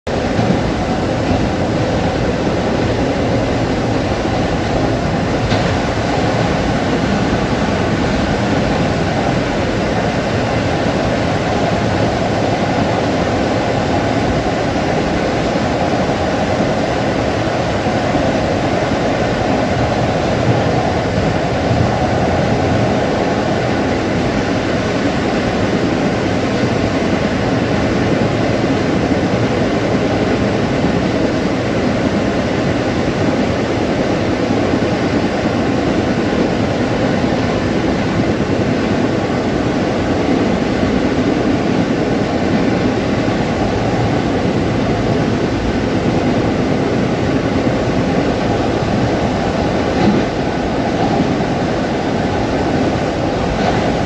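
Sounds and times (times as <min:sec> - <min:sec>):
train wheels on rail: 0:00.1 - 0:54.0.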